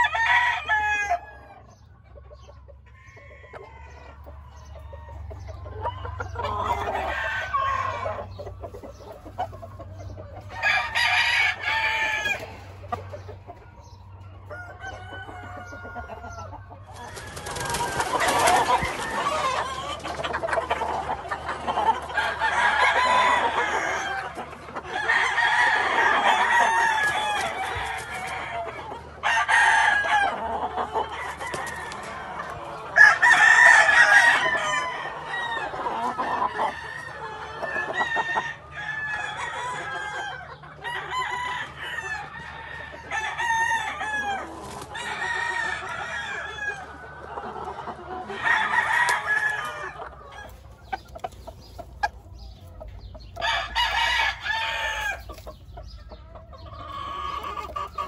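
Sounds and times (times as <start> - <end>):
chickens clucking: 0.0 - 58.0
roosters crowing: 0.0 - 58.0.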